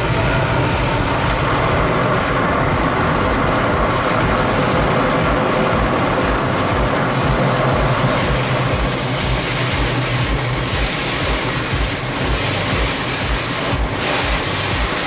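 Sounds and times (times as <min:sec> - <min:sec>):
water spraying on car: 0:00.0 - 0:15.0.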